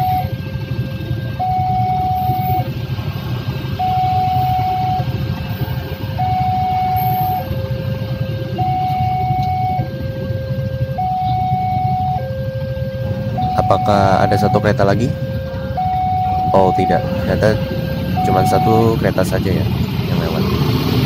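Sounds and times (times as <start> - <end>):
train rumbling past: 0.0 - 21.0
two-tone level-crossing alarm: 0.0 - 21.0.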